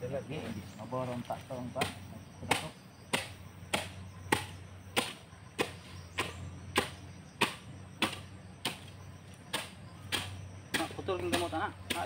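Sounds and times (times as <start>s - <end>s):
digging tool chopping into ground: 1.6s - 12.0s.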